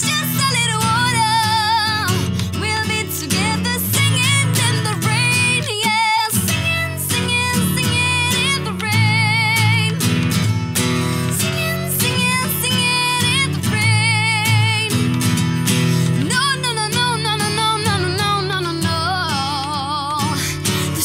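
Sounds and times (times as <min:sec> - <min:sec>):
woman singing with vibrato: 0:00.0 - 0:10.0, 0:11.2 - 0:15.2, 0:16.0 - 0:21.0
strummed acoustic guitar: 0:00.0 - 0:21.0.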